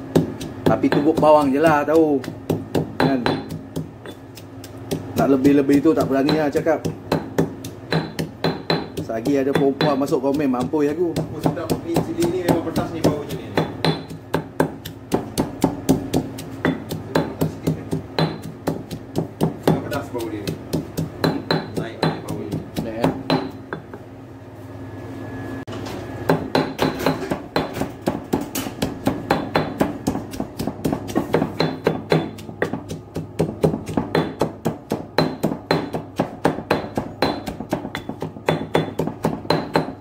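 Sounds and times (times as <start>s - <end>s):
pestle pounding in stone mortar: 0.0s - 24.0s, 26.3s - 40.0s.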